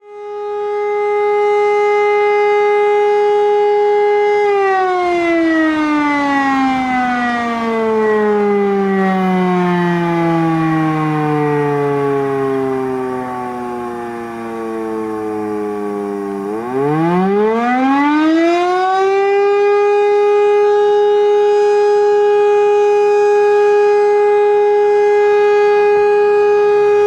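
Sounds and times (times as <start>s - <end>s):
electric motor siren: 0.0s - 27.0s.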